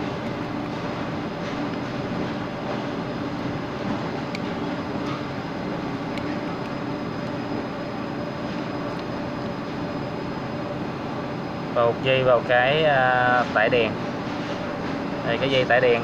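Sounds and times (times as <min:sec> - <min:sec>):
background hum and rumble: 0:00.0 - 0:16.0.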